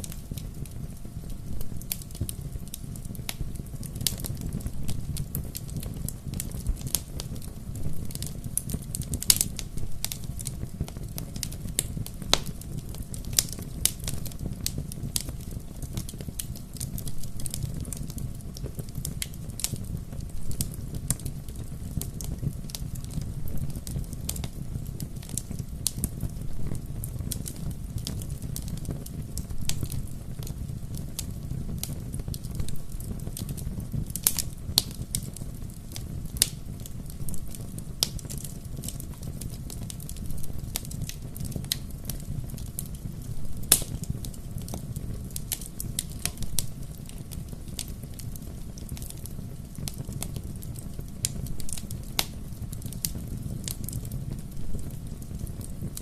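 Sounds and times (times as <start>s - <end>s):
low roar of flame: 0.0s - 56.0s
wood fire crackling and popping: 0.0s - 56.0s.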